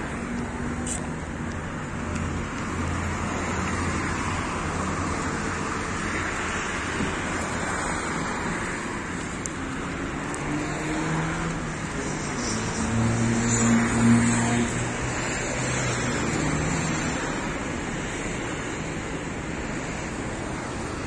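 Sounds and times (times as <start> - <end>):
cars passing on street: 0.0 - 21.0.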